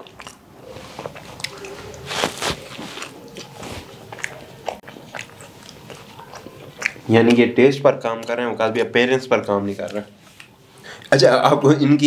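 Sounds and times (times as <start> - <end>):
chewing and biting food: 0.0 - 11.2.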